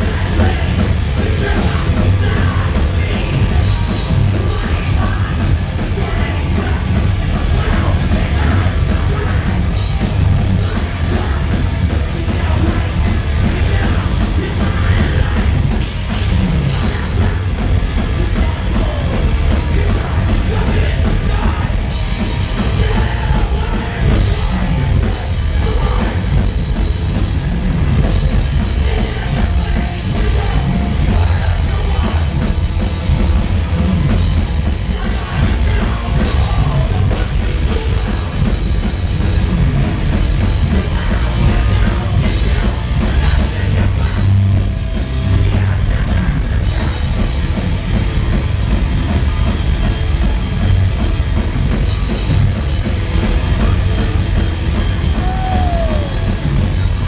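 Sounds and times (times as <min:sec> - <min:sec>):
thrash metal band playing: 0:00.0 - 0:57.0.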